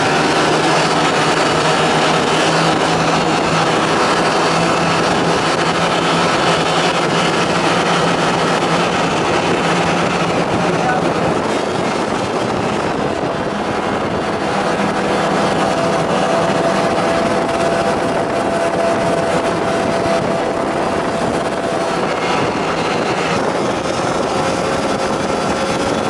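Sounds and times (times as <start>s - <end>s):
rushing noise: 0.0s - 26.0s
snowmobile engine running: 0.0s - 26.0s.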